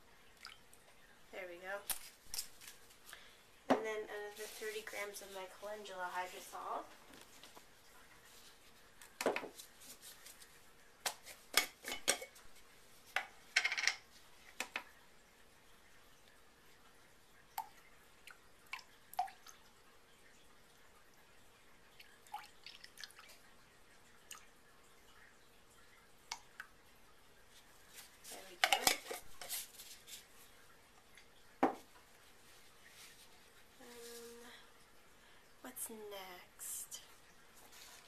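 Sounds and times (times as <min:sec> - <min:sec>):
liquid dripping: 0:00.0 - 0:05.6, 0:06.3 - 0:38.0.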